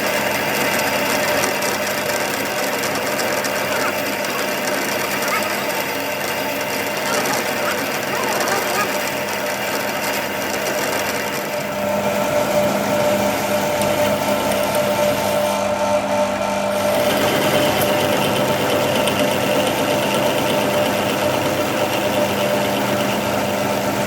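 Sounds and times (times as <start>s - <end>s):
machine motor humming: 0.0s - 24.0s.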